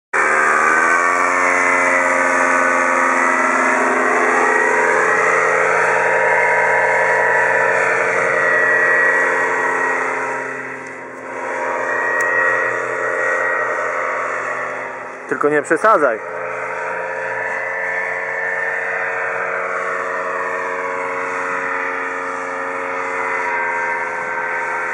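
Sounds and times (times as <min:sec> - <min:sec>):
paraglider engine and propeller overhead: 0:00.1 - 0:24.9.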